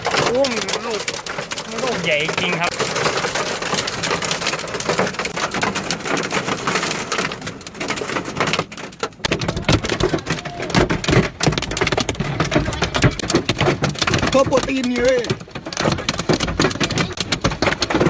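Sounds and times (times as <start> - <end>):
hailstones pelting: 0.0 - 18.0
heavy hail thuds: 0.0 - 18.0.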